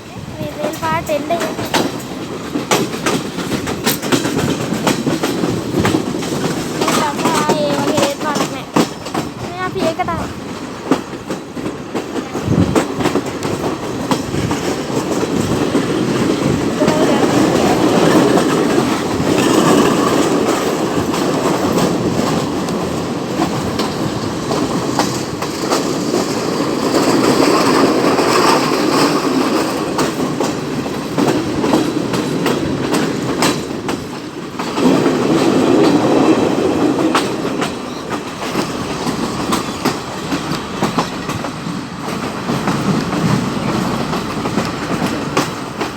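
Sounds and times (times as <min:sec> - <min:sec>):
train wheels clattering: 0:00.0 - 0:45.9.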